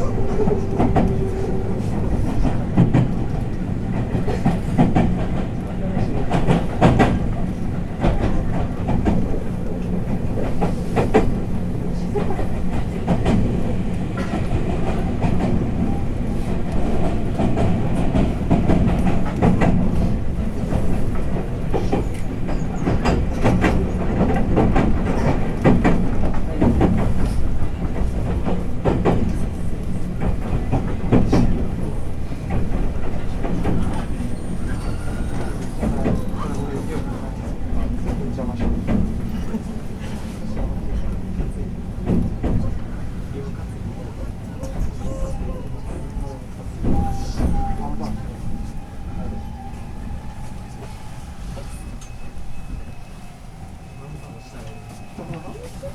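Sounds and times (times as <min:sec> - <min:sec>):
wheels rumbling on rail: 0:00.0 - 0:55.9.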